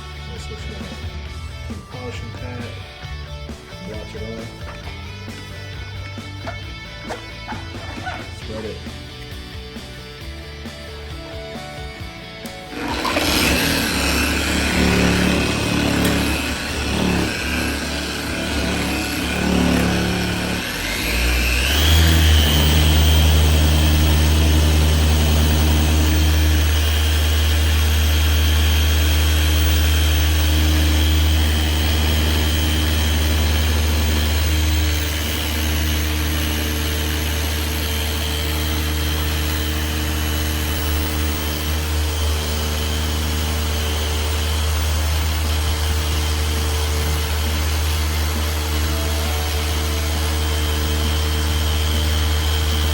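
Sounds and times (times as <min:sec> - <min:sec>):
polisher motor whining: 0:04.0 - 0:52.9.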